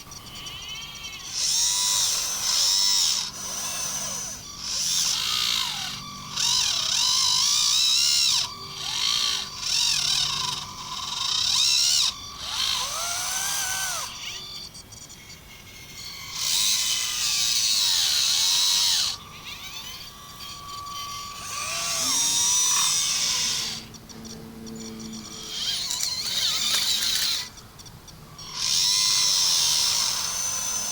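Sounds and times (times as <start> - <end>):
small electric motors whining: 0.0 - 30.9.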